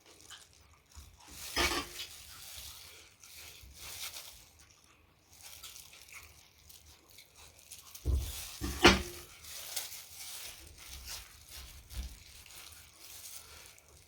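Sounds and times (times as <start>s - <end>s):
chewing and crunching: 0.0s - 14.0s.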